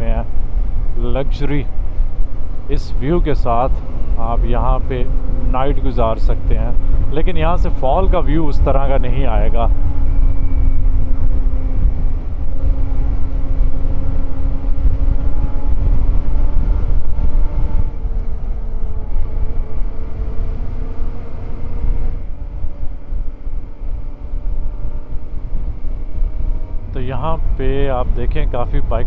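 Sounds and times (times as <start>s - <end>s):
motorcycle engine cruising: 0.0s - 29.0s
wind rumble on microphone: 0.0s - 29.0s.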